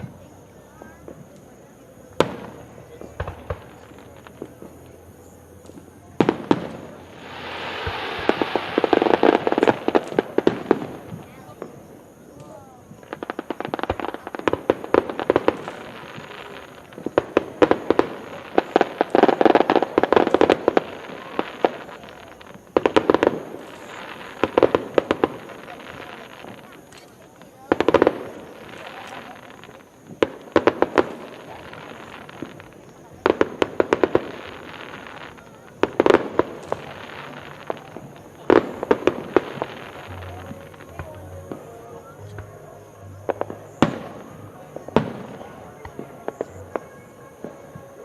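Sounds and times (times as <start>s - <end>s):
fireworks cracking and popping: 0.0s - 48.0s.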